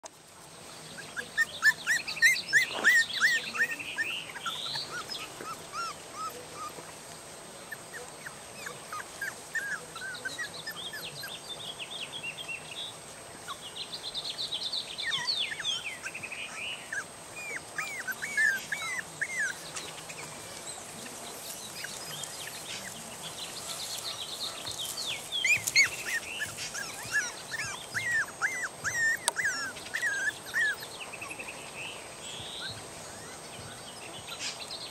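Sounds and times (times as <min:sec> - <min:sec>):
puppies whining: 0:01.0 - 0:07.0, 0:07.6 - 0:11.4, 0:15.0 - 0:31.7, 0:32.3 - 0:34.9.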